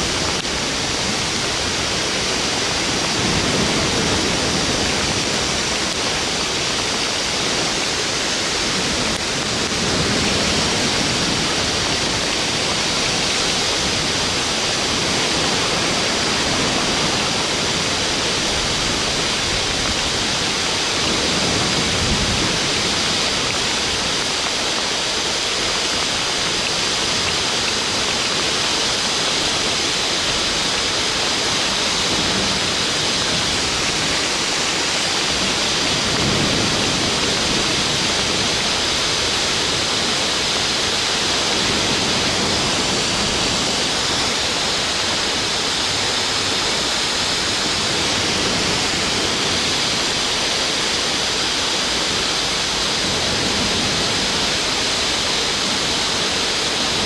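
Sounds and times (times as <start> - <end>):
steady loud hiss: 0.0 - 57.0.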